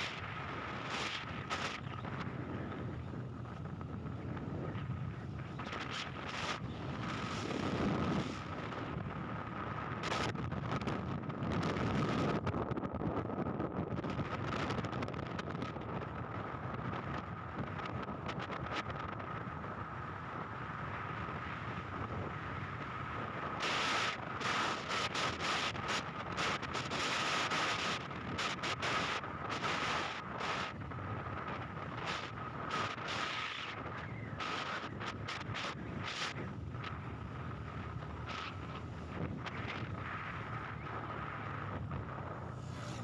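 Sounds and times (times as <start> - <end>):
thin steady whine: 0.0 - 10.9, 18.9 - 43.0
moving vehicle running noise: 0.0 - 43.0
wind buffeting microphone: 0.0 - 43.0.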